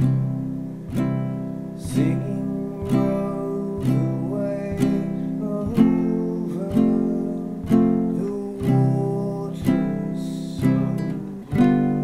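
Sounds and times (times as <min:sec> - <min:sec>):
person singing: 0:00.0 - 0:12.0
ukulele strumming: 0:00.0 - 0:12.0.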